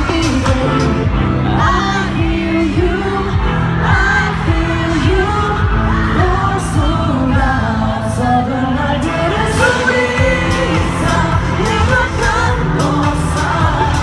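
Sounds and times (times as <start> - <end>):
heavy bass line: 0.0 - 14.0
male group singing: 0.0 - 14.0.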